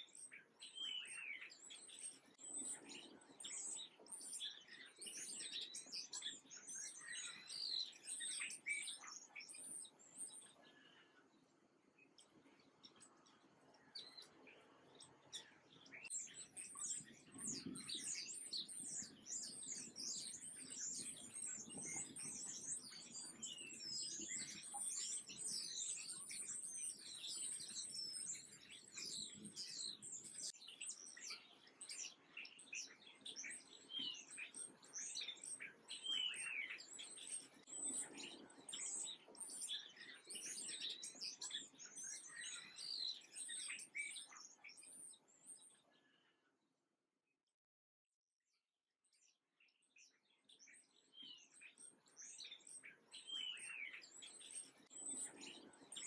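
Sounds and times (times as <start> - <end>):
songbirds chirping: 0.0 - 46.6, 49.0 - 56.0.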